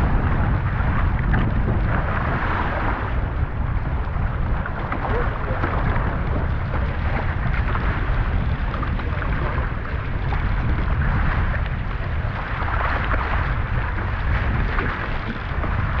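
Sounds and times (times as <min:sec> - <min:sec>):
water rushing along hulls: 0:00.0 - 0:16.0
wind buffeting microphone: 0:00.0 - 0:16.0.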